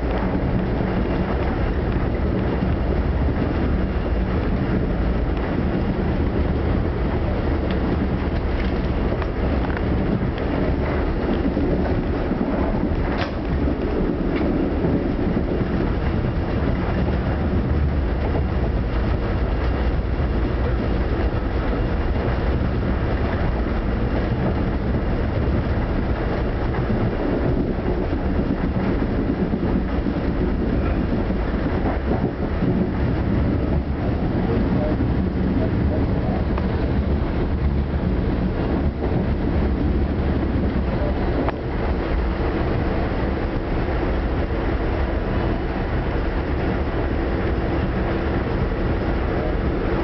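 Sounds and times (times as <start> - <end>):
train rumbling at speed: 0.0 - 50.0.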